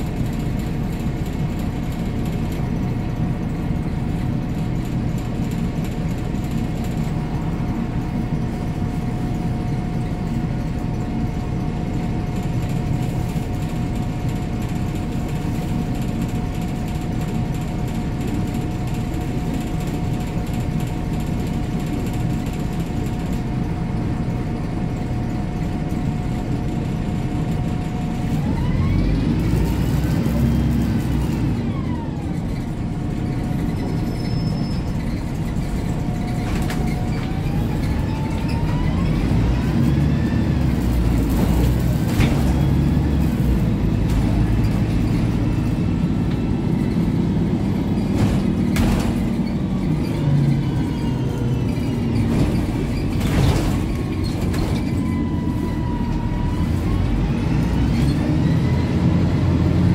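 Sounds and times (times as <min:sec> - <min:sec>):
bus engine and road rumble: 0:00.0 - 0:59.9
drivetrain whine: 0:00.0 - 0:59.9.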